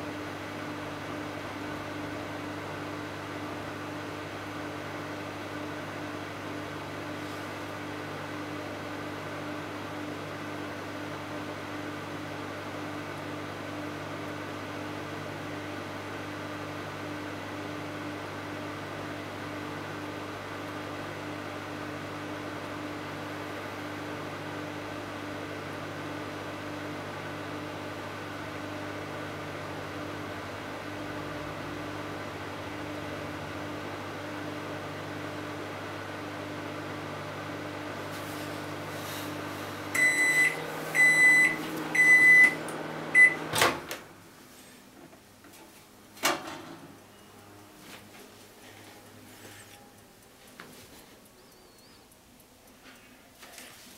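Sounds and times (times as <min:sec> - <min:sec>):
microwave oven humming: 0:00.0 - 0:53.9.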